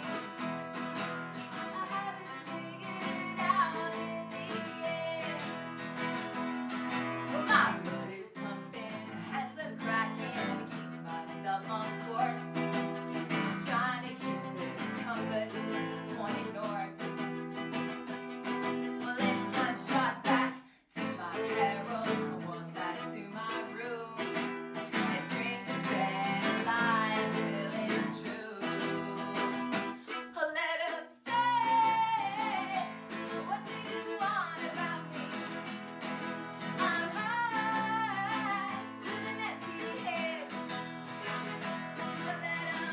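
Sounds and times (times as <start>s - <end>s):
strummed acoustic guitar: 0.0s - 30.4s, 31.2s - 42.9s
person singing: 1.3s - 6.2s, 6.8s - 17.4s, 18.6s - 35.8s, 36.6s - 41.4s, 42.0s - 42.9s.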